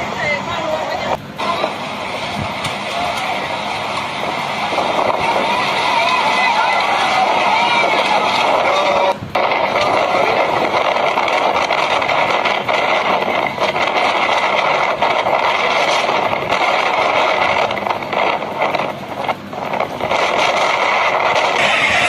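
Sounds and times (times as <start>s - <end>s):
gusting wind: 0.0s - 22.0s
heavy rain: 0.0s - 22.0s.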